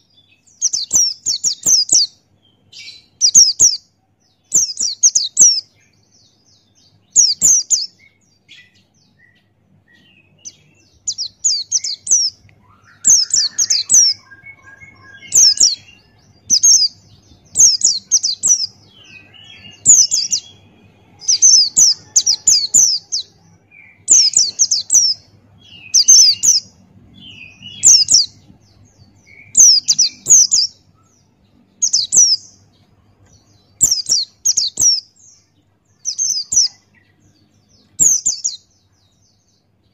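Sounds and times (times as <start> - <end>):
faint bird twittering: 0.0 - 39.9
bird chirping loudly: 0.4 - 3.9, 4.5 - 5.7, 7.0 - 9.3, 10.0 - 32.7, 33.7 - 35.3, 36.0 - 37.1, 37.8 - 38.7.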